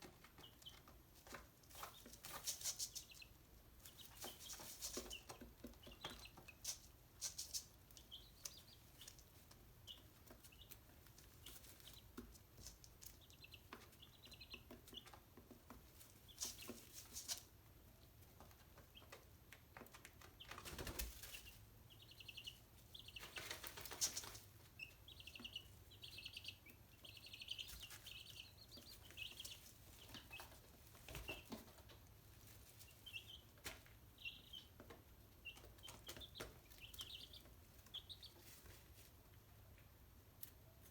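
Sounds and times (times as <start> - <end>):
chickens chirping: 0.0 - 39.9.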